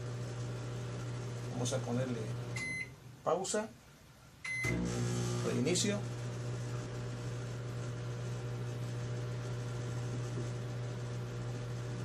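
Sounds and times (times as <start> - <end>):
microwave oven humming: 0.0 - 2.9, 4.5 - 12.0.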